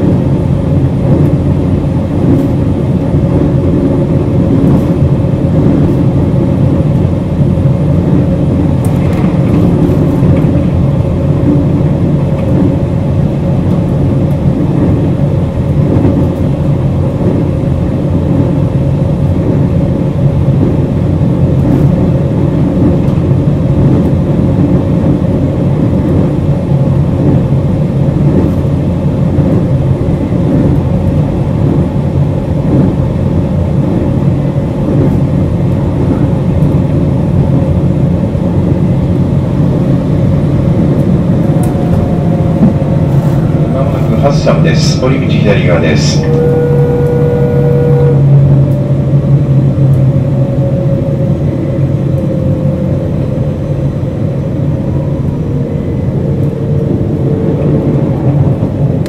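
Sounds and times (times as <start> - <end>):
train cabin rumble and hum: 0.0 - 59.0.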